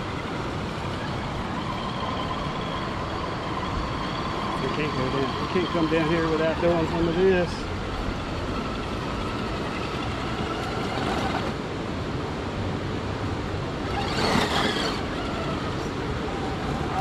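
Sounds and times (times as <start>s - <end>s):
electric motor whining: 0.0s - 11.6s, 13.8s - 17.0s
rush of noise: 0.0s - 17.0s.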